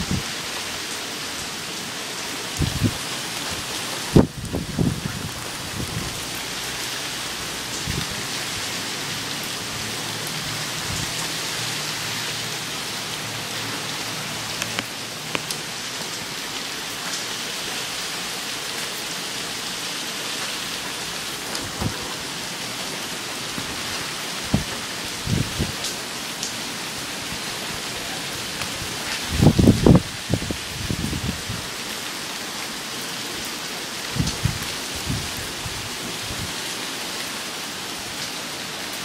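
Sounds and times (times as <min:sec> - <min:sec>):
heavy rain hissing on street: 0:00.0 - 0:39.0.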